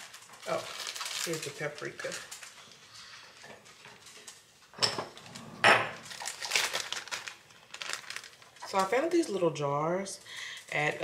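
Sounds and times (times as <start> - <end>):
plastic bag rustle: 0.0 - 4.5, 5.1 - 11.0.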